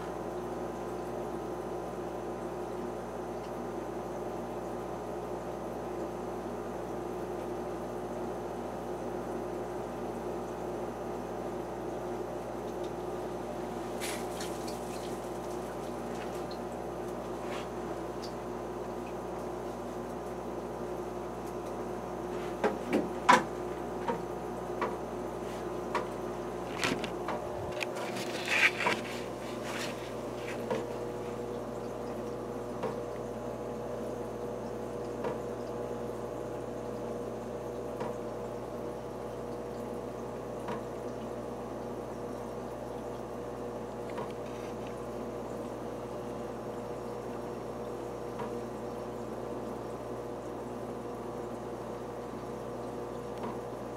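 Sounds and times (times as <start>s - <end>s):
faint water trickle: 0.0s - 22.6s, 23.2s - 53.9s
aquarium equipment humming: 0.0s - 53.9s.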